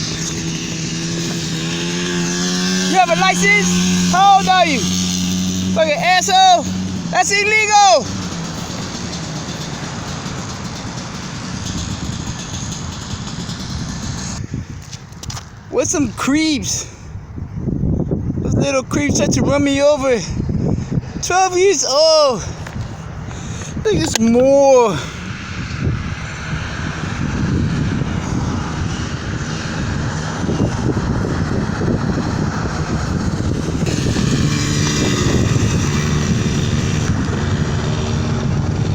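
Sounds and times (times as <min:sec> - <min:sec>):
motor vehicle engine and road noise: 0:00.0 - 0:38.9.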